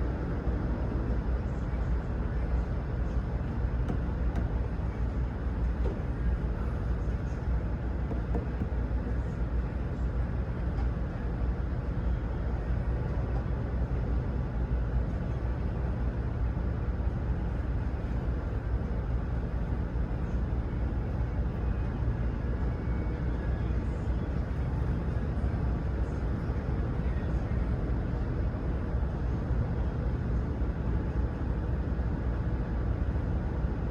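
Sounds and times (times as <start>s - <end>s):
engine idling: 0.0s - 33.2s.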